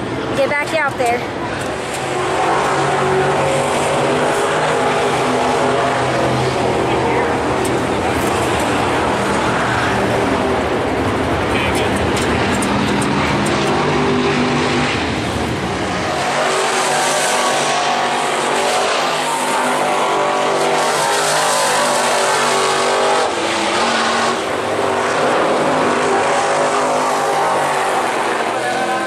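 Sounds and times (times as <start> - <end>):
race cars at high revs: 0.0 - 29.0.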